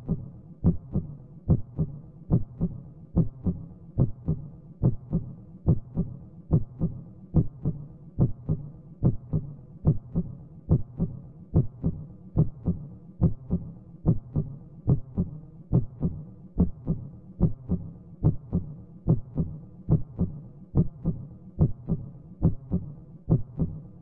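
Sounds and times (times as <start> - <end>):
heartbeat thumps: 0.0 - 23.8.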